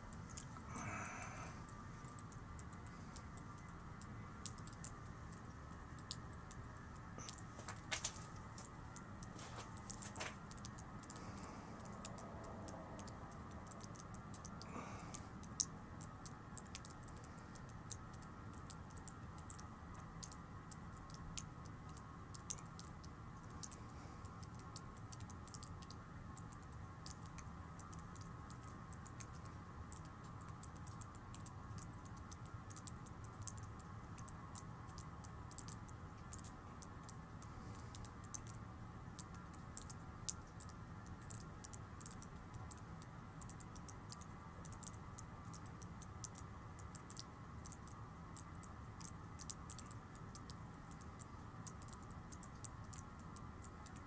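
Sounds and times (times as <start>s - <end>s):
faint irregular clicks: 0.0s - 54.0s.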